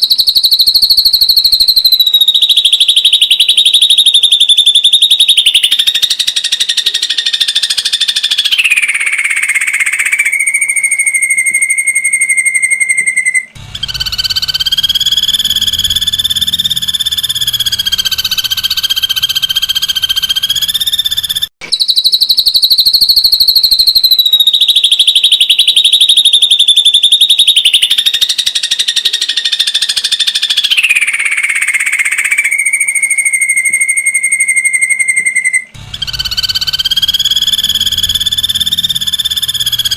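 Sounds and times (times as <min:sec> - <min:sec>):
bird fast trilling call: 0:00.0 - 0:39.9.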